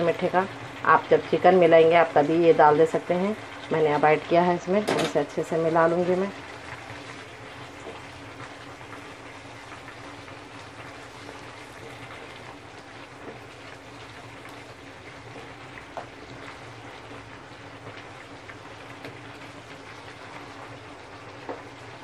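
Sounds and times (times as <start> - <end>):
curry sizzling and bubbling: 0.0 - 22.0.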